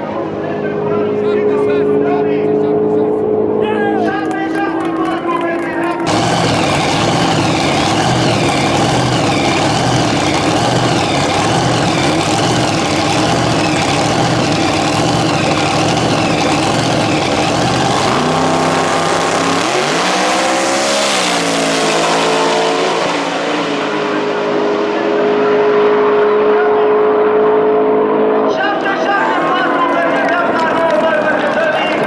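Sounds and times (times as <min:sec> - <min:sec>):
race car engine revving: 0:04.2 - 0:32.0.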